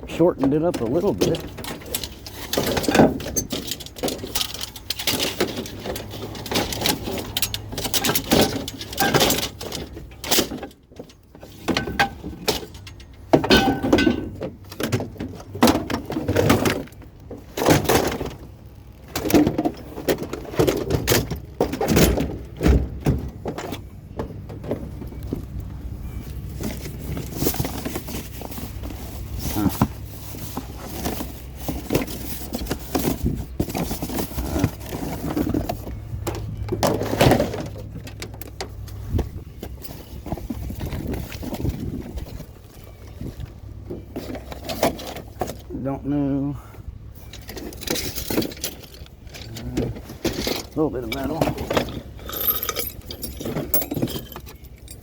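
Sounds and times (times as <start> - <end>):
low steady hum: 0.0 - 55.0
scrap metal clanking and banging: 0.0 - 55.0.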